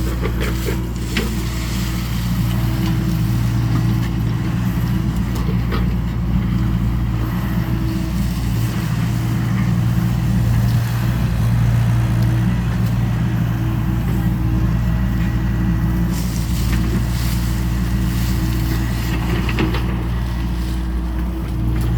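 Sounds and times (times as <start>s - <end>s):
excavator engine running: 0.0s - 21.9s.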